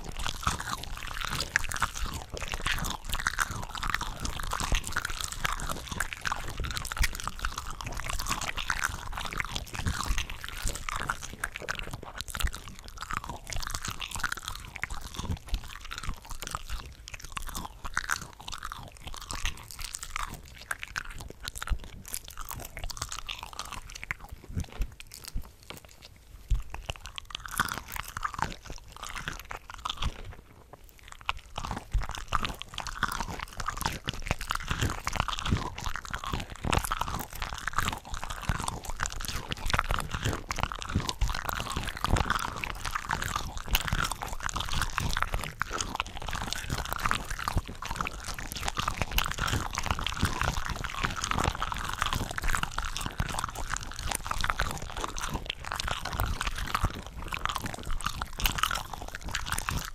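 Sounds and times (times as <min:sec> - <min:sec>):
close-miked chewing and biting: 0:00.0 - 0:59.9.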